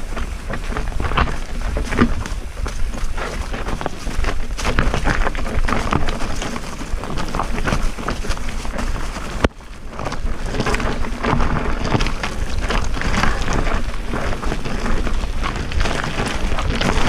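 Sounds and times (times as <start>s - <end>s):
bike rattling over bumps: 0.0s - 17.0s
tyres crunching over stones: 0.0s - 17.0s
wind buffeting microphone: 0.0s - 17.0s.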